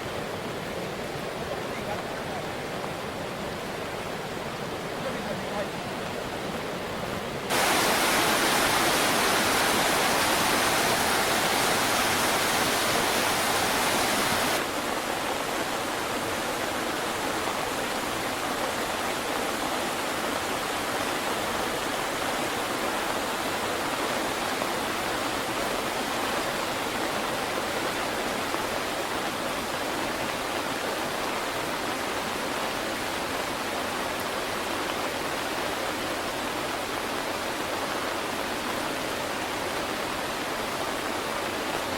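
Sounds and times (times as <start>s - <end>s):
river in flood roaring: 0.0s - 41.9s.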